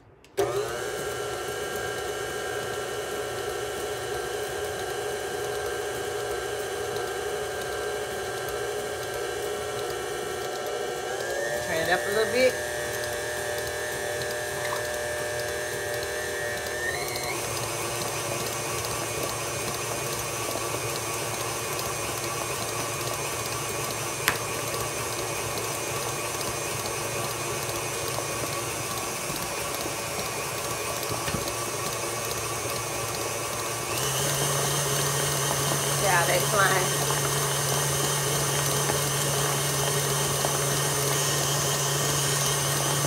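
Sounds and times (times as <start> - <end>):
stand mixer motor whine: 0.3 - 43.0.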